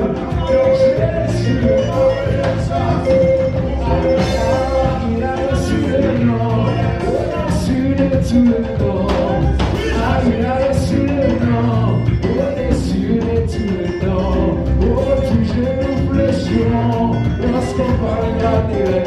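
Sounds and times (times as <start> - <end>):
live band playing upbeat song: 0.0 - 19.0
person singing: 0.0 - 19.0.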